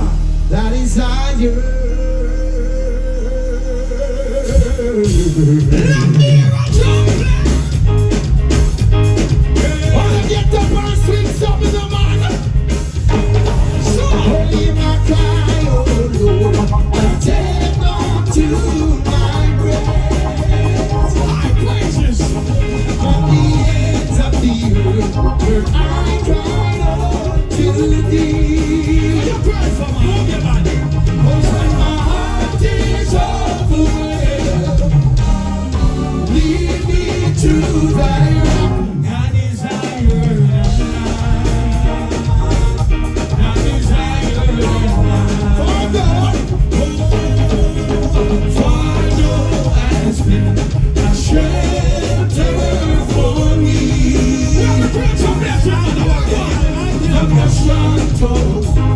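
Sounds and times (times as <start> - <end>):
heavy bass beat: 0.0 - 1.6, 3.9 - 39.0, 40.0 - 58.9
live music with singing: 0.0 - 58.9.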